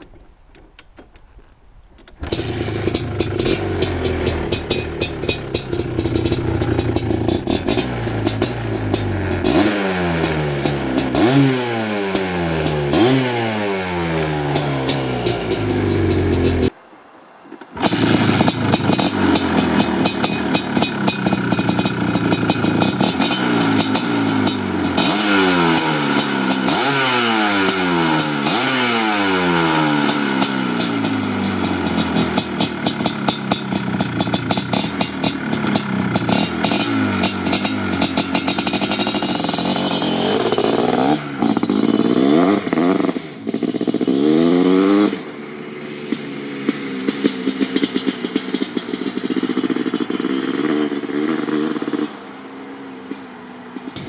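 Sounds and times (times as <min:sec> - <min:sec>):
crackling exhaust: 0:00.0 - 0:54.0
two-stroke engine revving: 0:02.2 - 0:16.7, 0:17.8 - 0:52.4.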